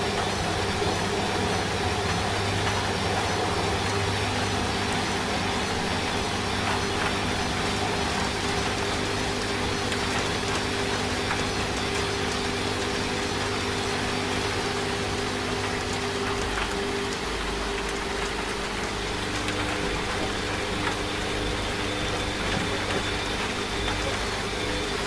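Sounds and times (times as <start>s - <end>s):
steady rain hiss: 0.0s - 25.0s
washing machine motor hum: 0.0s - 25.0s.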